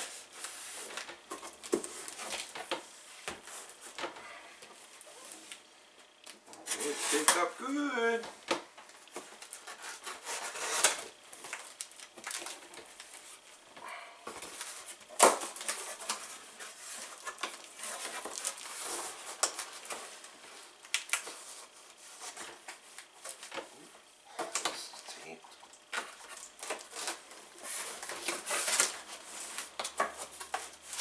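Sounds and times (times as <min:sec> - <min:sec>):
cardboard rustling and scraping: 0:00.0 - 0:07.8, 0:08.5 - 0:13.6, 0:14.2 - 0:24.8, 0:25.9 - 0:31.0.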